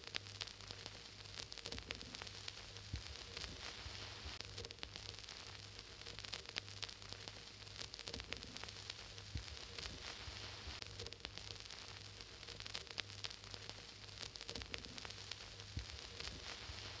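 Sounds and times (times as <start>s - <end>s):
crackles and clicks: 0.0s - 17.0s
faint steady hiss: 0.0s - 17.0s.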